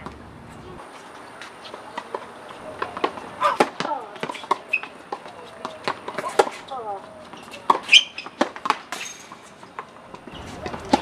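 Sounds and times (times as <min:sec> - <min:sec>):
sneaker squeaks: 0:00.0 - 0:11.0
tennis balls struck by rackets: 0:00.0 - 0:11.0
balls bouncing on hard court: 0:01.1 - 0:11.0.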